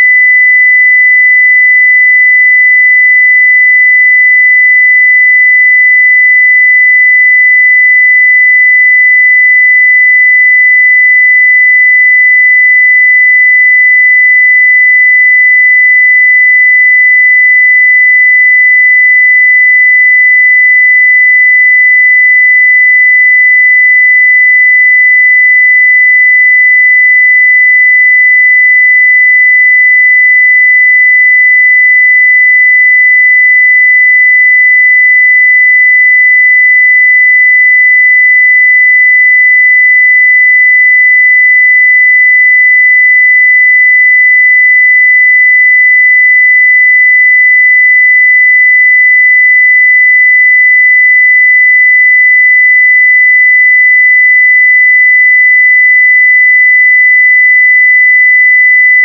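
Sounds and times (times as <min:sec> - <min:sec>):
sine-wave test tone: 0:00.0 - 0:59.0.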